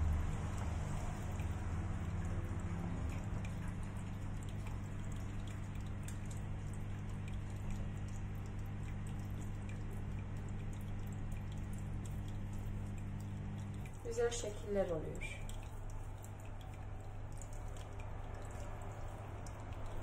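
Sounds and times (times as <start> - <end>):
low hum with hiss: 0.0 - 20.0.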